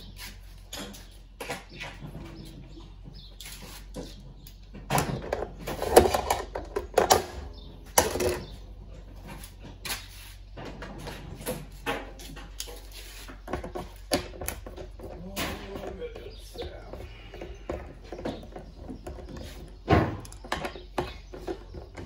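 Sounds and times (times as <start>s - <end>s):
metal parts and tools clanking: 0.0s - 22.0s.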